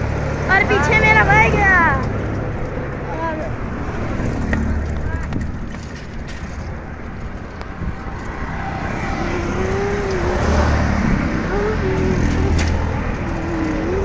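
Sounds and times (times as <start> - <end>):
road traffic: 0.0 - 14.0
wind rumbling over microphone: 1.4 - 14.0.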